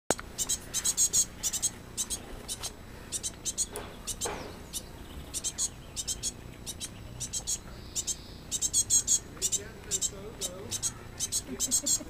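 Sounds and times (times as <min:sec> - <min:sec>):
songbird chirping: 0:00.1 - 0:12.0.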